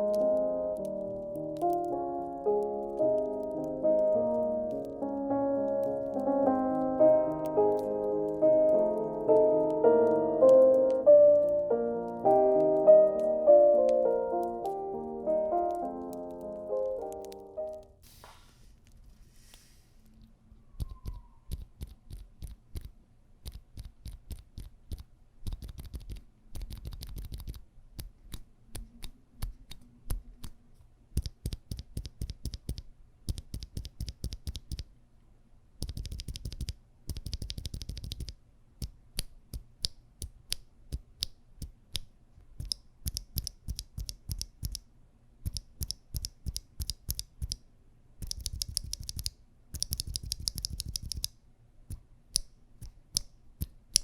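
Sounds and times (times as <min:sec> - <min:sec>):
soft muted keyboard typing: 0:00.0 - 0:17.9, 0:20.0 - 0:34.9, 0:35.8 - 0:47.6, 0:48.2 - 0:54.0.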